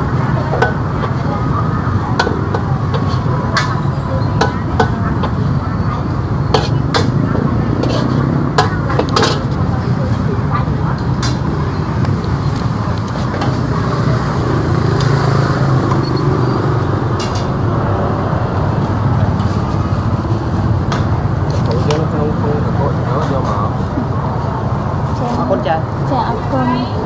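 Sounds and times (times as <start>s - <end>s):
passing traffic rumble: 0.0s - 27.0s.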